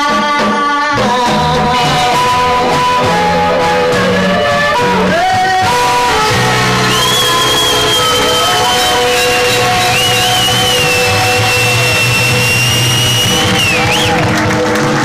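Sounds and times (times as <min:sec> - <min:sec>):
harmonica: 0:00.0 - 0:14.4
bass: 0:00.0 - 0:15.0
drums: 0:00.0 - 0:15.0
electric guitar: 0:00.0 - 0:15.0
person singing: 0:00.0 - 0:15.0.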